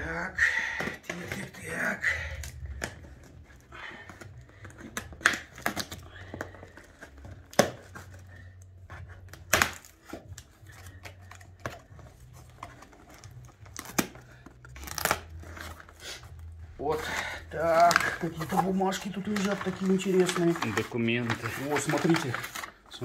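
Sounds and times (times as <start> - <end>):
tape crinkling: 0.7 - 23.0.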